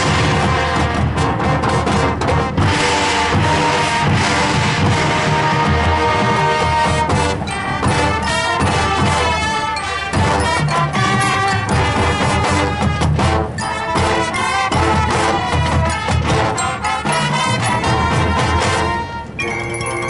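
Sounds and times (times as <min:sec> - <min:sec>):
brass chords: 0:00.0 - 0:20.0
marching band playing: 0:00.0 - 0:20.0
percussion hits: 0:00.0 - 0:20.0.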